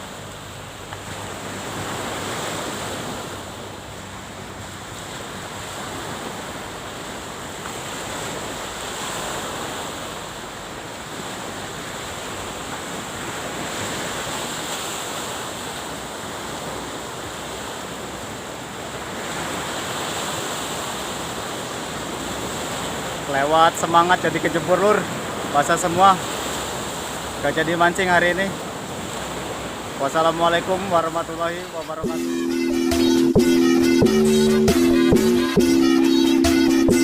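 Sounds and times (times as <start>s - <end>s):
sea waves washing on shore: 0.0s - 32.6s.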